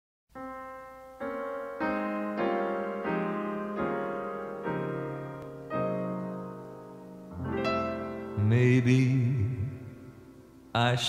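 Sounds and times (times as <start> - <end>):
piano chords ringing: 0.3 - 11.0.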